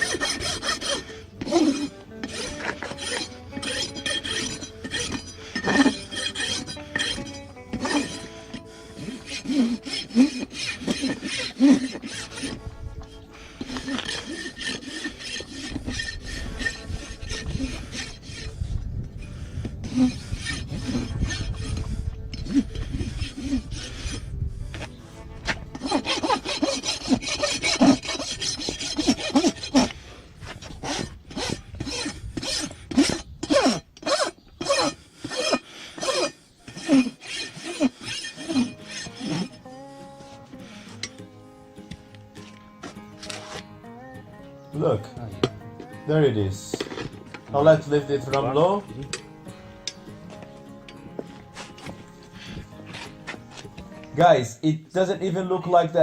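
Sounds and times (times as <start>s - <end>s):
hoof rasp scraping hoof: 0.0s - 56.0s.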